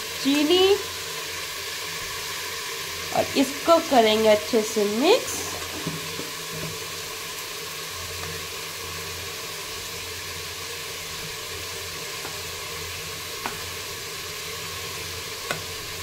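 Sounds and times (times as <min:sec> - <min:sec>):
potatoes sizzling in oil: 0:00.0 - 0:16.0.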